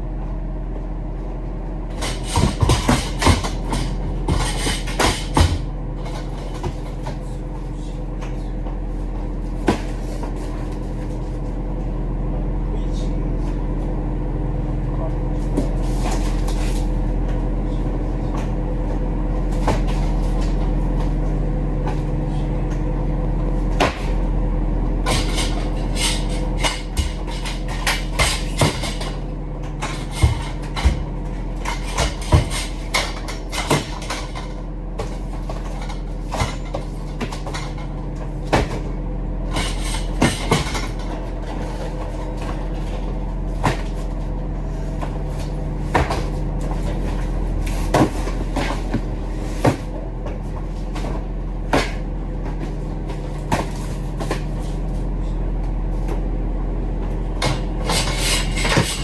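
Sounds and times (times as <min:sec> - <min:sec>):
low engine hum: 0:00.0 - 0:59.0
knocks and rattles: 0:01.9 - 0:11.5, 0:15.3 - 0:55.0, 0:57.1 - 0:59.0.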